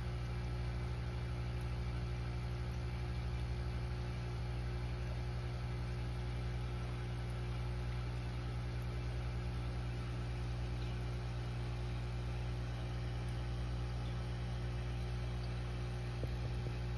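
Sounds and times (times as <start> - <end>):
aquarium motor hum with buzzing: 0.0 - 16.9.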